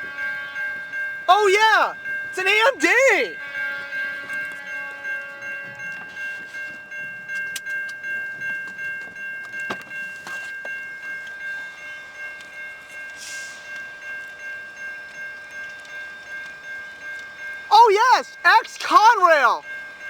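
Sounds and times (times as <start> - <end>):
crossing bell ringing: 0.0 - 20.0.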